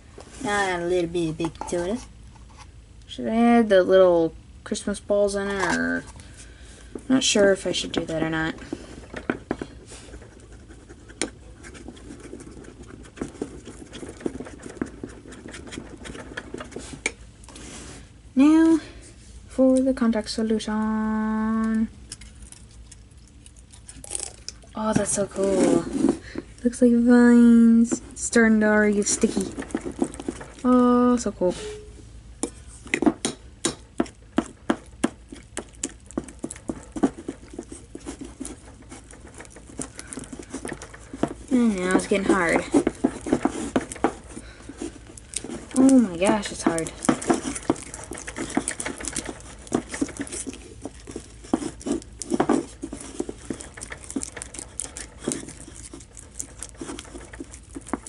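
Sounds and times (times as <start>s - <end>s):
sticky slime stirred with stick: 0.0s - 58.0s.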